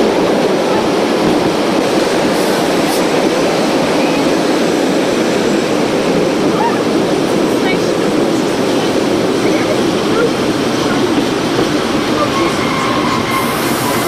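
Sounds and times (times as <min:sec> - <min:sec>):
train rushing at speed: 0:00.0 - 0:14.0.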